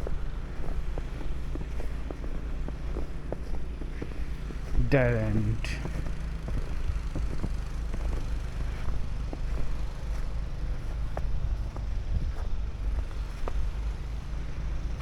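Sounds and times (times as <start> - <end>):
footsteps in snow: 0.0 - 13.7.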